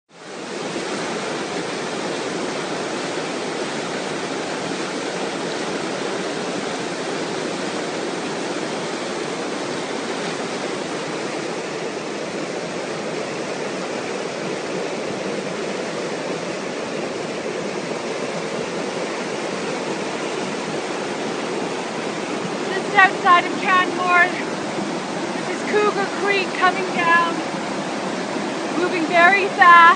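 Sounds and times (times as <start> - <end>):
creek water rushing over gravel: 0.1 - 29.9.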